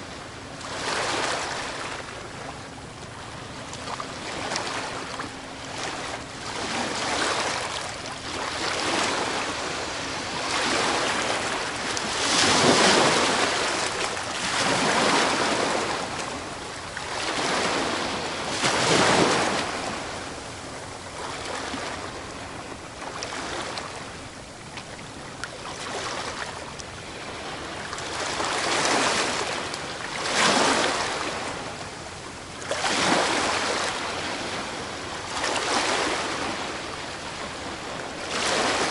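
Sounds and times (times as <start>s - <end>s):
ocean waves crashing on beach: 4.1s - 24.2s, 25.6s - 31.9s, 32.6s - 38.9s.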